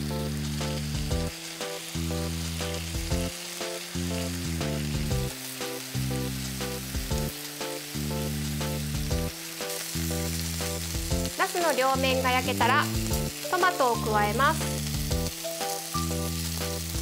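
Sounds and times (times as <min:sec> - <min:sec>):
background music low notes: 0:00.0 - 0:17.0
meat sizzling in frying pan: 0:00.0 - 0:17.0.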